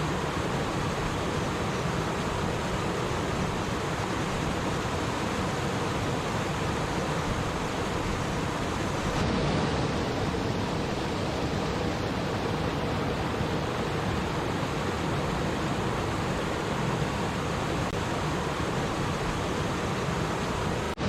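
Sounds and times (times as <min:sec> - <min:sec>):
stream flowing and babbling: 0:00.0 - 0:21.0.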